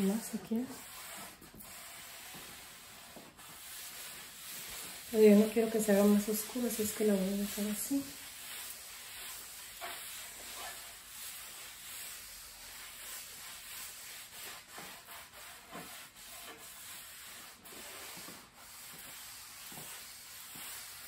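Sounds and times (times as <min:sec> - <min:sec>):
cloth rubbing on wooden tabletop: 0:00.0 - 0:21.0.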